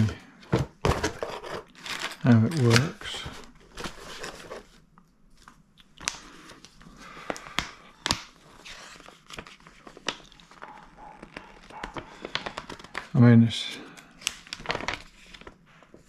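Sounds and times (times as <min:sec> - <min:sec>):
paper rustling and crinkling: 0:00.8 - 0:13.2, 0:13.8 - 0:16.0.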